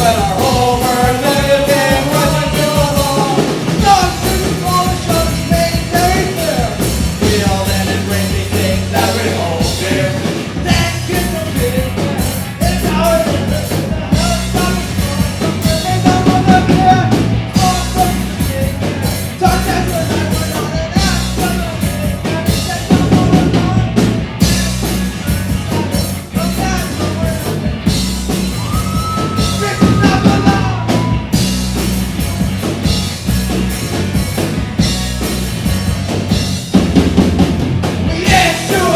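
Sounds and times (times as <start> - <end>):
lead singer's voice: 0.0 - 31.7, 37.9 - 38.9
live rock band playing: 0.0 - 38.9.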